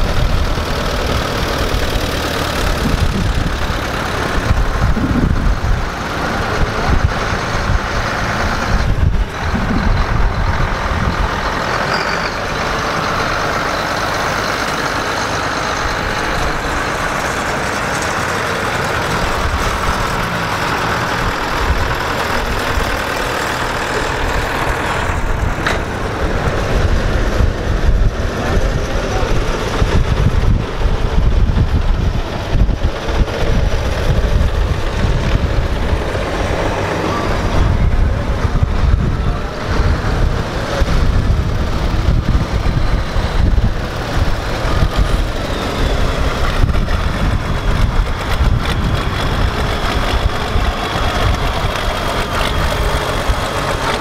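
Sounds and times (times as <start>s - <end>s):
large tractor engine running: 0.0s - 54.0s
tractor engines rumbling: 0.0s - 54.0s.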